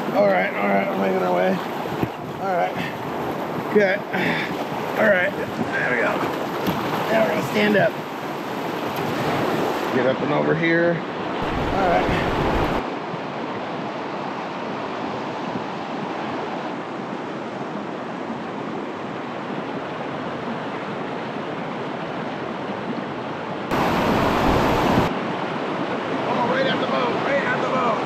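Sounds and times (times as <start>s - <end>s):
creek water rushing over rapids: 0.0s - 28.0s.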